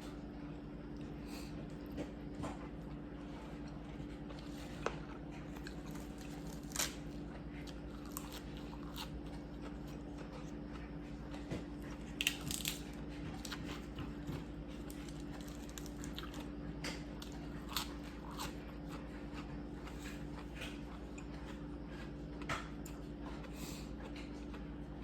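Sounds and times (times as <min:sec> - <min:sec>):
steady low hum: 0:00.0 - 0:25.0
person chewing seafood: 0:03.6 - 0:24.7.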